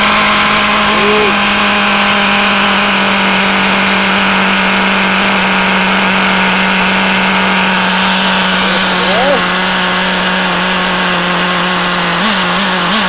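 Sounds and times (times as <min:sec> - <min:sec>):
model engine high-pitched buzz: 0:00.0 - 0:13.0.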